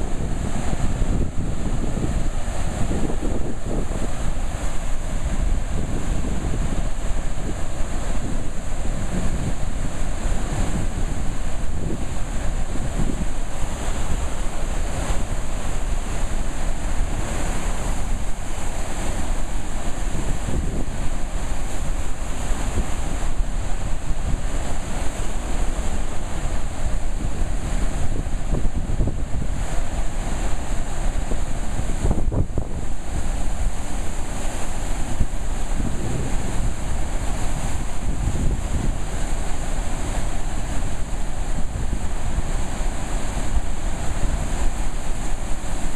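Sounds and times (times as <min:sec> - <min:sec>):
rushing falling water: 0:00.0 - 0:45.9.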